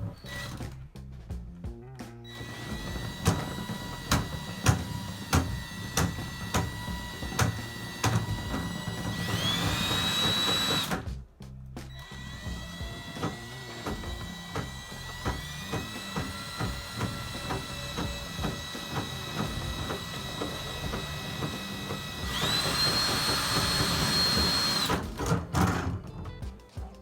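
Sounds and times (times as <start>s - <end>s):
drill motor whining: 0.0s - 0.7s, 2.3s - 11.1s, 11.9s - 25.6s.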